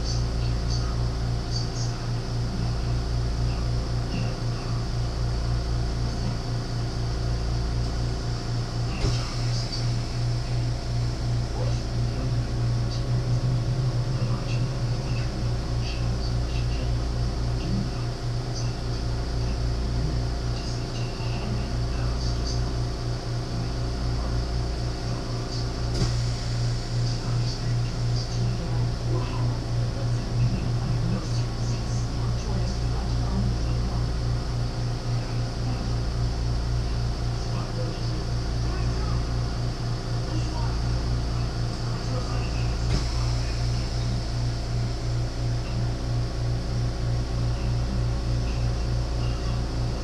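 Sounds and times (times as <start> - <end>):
throbbing mechanical hum: 0.0 - 50.0.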